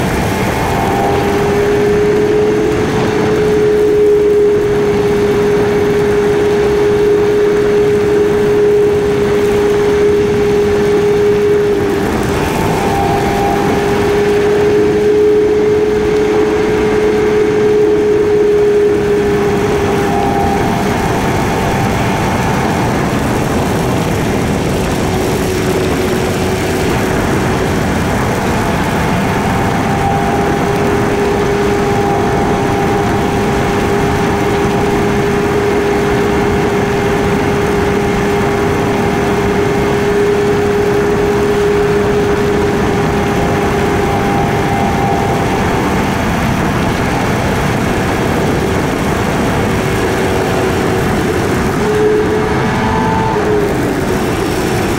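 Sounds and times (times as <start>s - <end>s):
motorcycle engine cruising: 0.0s - 54.9s
rushing wind: 0.0s - 54.9s.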